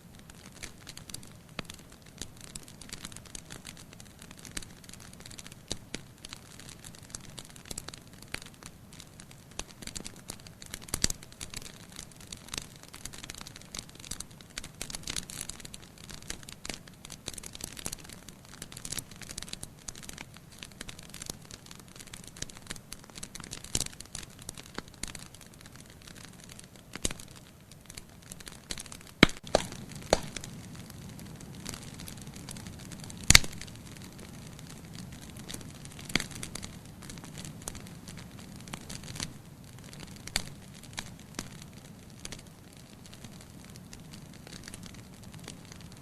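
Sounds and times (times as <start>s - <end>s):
wood fire crackling: 0.0s - 46.0s
sharp pops from fire: 0.1s - 46.0s.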